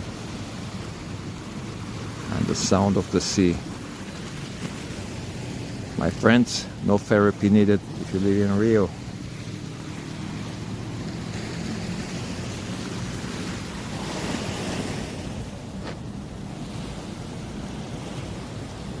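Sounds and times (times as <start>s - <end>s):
sea surf washing in: 0.0s - 19.0s.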